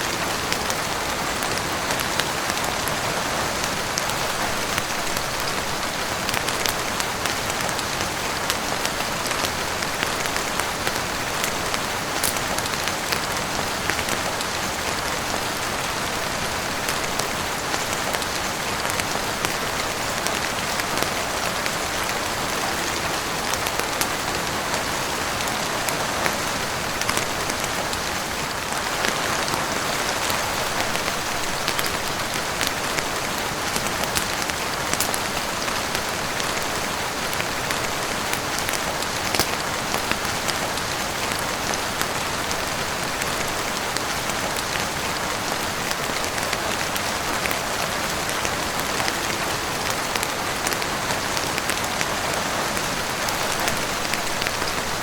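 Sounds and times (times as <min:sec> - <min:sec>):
heavy rain on roof and windows: 0:00.0 - 0:55.0.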